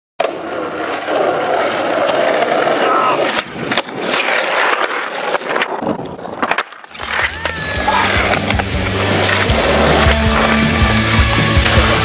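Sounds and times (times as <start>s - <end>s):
skateboard clacks: 0.2s - 12.0s
skateboard wheels rolling on concrete: 0.2s - 12.0s.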